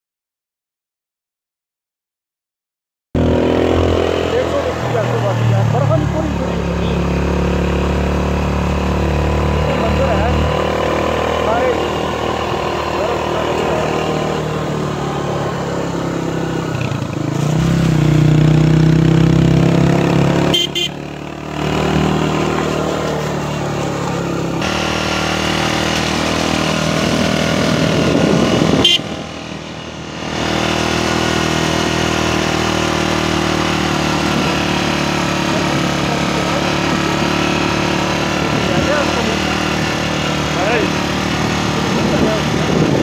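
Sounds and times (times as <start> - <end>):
motorcycle engine riding: 3.2 - 43.0.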